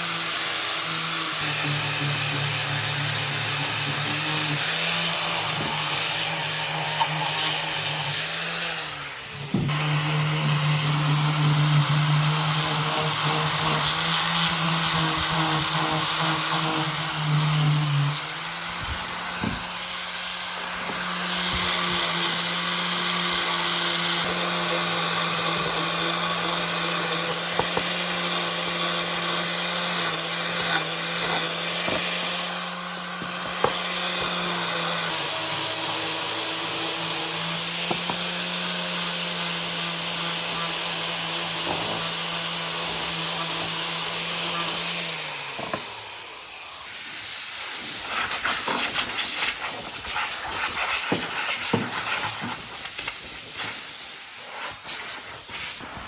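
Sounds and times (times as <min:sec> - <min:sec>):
electric power tool on wood: 0:00.0 - 0:56.0.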